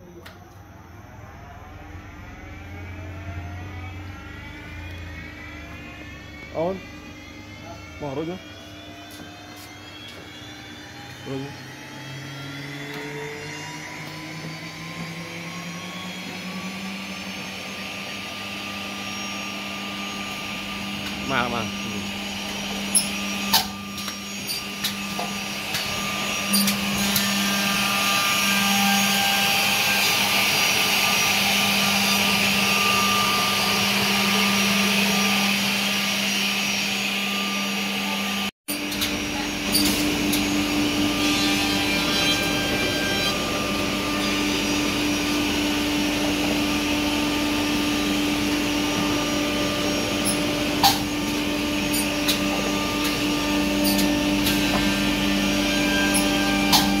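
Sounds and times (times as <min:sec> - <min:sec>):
edge banding machine humming: 0:02.3 - 0:57.0.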